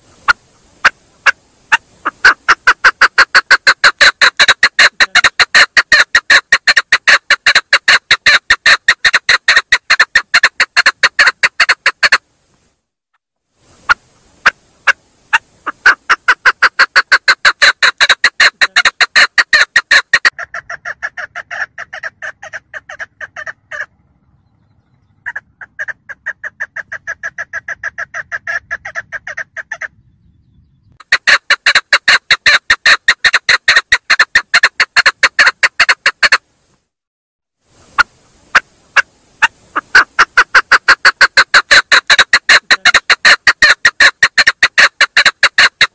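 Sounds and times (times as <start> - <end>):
partridge calling chuk notes: 0.0 - 12.2, 13.6 - 36.4, 37.8 - 45.9.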